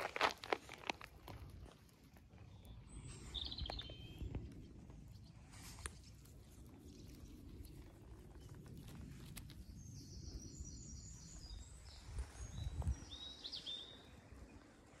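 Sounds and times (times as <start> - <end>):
low rumble: 0.8 - 15.0
songbird singing: 2.3 - 15.0.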